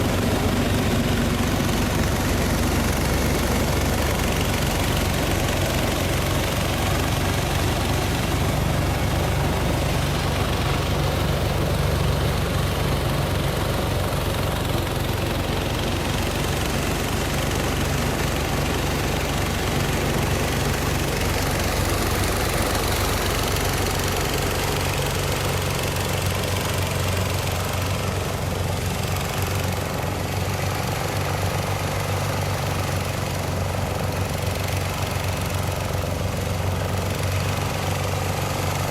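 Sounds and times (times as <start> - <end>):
threshing machine humming: 0.0 - 38.9.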